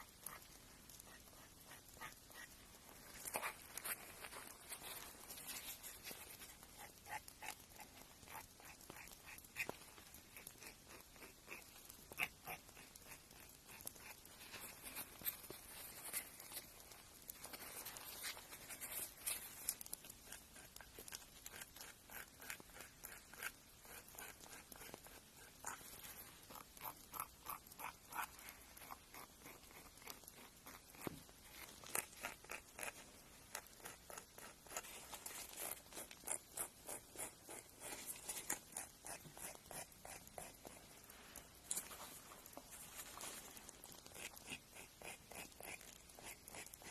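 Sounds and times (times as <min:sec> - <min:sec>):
nail file scraping fingernails: 0:00.0 - 0:42.7, 0:43.4 - 0:46.9.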